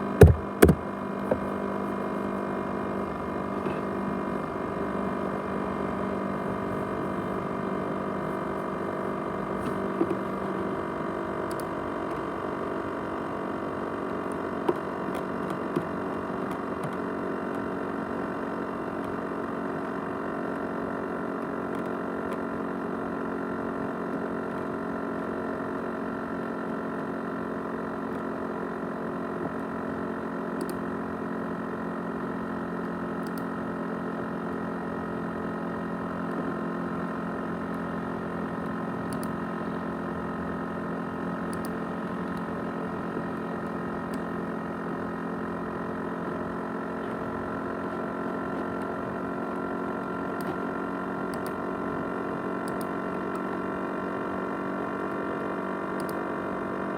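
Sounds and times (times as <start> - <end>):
laptop whirring drone: 0.0 - 56.9.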